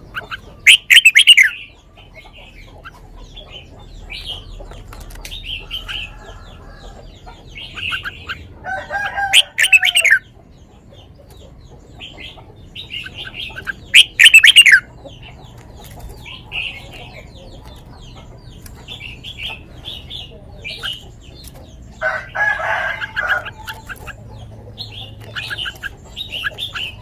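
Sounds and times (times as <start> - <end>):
bird chirps: 0.0 - 8.5, 9.2 - 27.0
bulbul singing: 0.0 - 8.5, 9.2 - 27.0.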